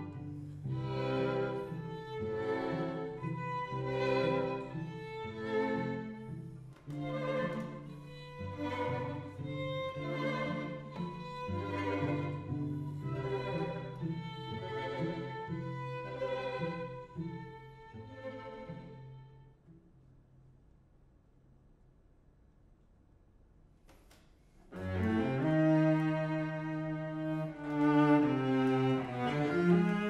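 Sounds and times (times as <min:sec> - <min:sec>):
string quartet playing: 0:00.0 - 0:19.6, 0:24.7 - 0:30.0.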